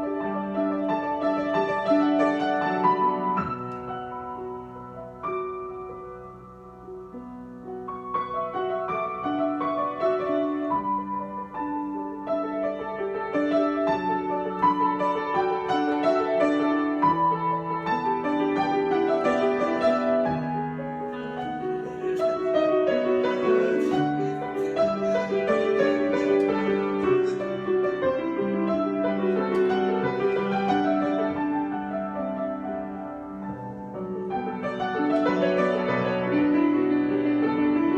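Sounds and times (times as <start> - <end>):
solo piano: 0.0 - 37.9.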